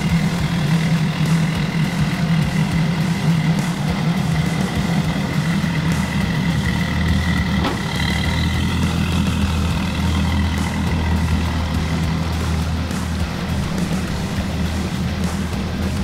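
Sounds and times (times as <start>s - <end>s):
outboard engines idling: 0.0s - 16.0s.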